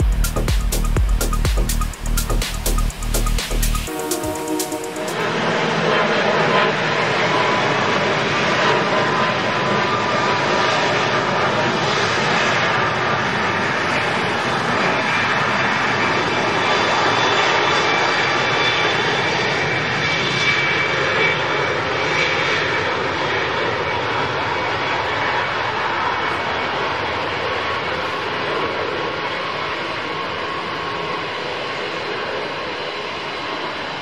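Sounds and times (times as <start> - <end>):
jet airliner engines taxiing: 0.0 - 34.0.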